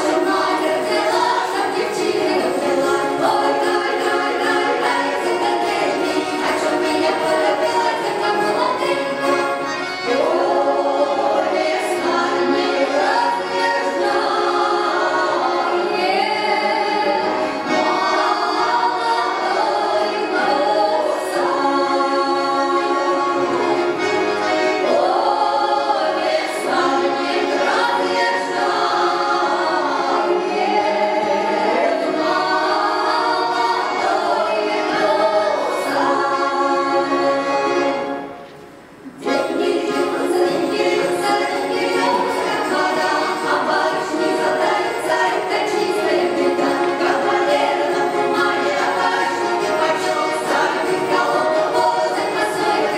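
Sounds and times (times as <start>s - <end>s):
women singing a folk song: 0.0s - 38.3s, 39.1s - 52.9s
balalaika: 0.0s - 52.9s
button accordion: 0.0s - 52.9s.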